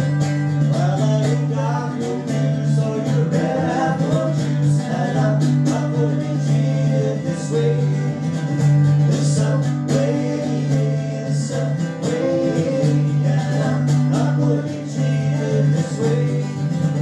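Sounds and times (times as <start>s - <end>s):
person singing: 0.0s - 17.0s
strummed guitar: 0.0s - 17.0s.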